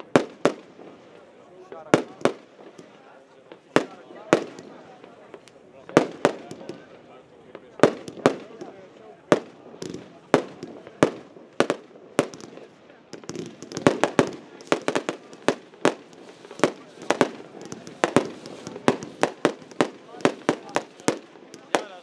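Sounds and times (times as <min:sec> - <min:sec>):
aerial fireworks bangs: 0:01.8 - 0:22.0.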